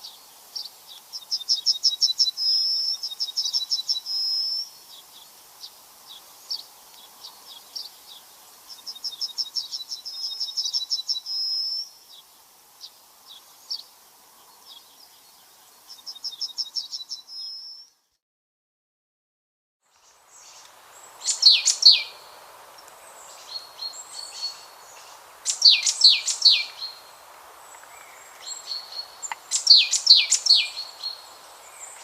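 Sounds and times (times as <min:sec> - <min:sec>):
bird chirps: 0:00.0 - 0:13.9, 0:14.5 - 0:18.2, 0:20.0 - 0:27.1, 0:27.7 - 0:32.0
songbird singing with trill: 0:00.0 - 0:18.2, 0:20.0 - 0:32.0.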